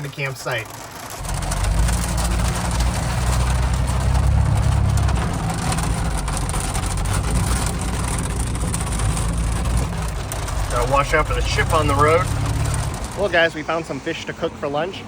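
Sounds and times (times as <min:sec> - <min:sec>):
car engine drone: 0:00.0 - 0:14.8
road noise: 0:00.0 - 0:15.0.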